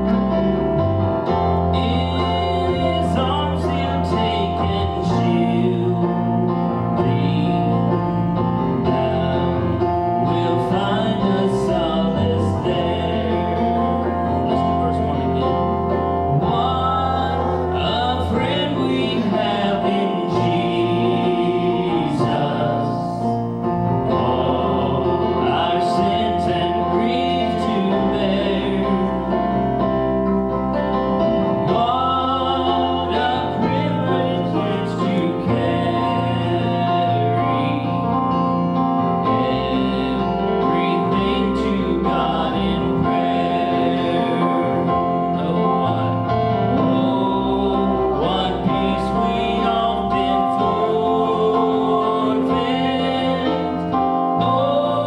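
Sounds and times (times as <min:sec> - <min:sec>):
instrumental backing bass and chords: 0:00.0 - 0:55.0
voices singing gospel song: 0:00.0 - 0:55.0.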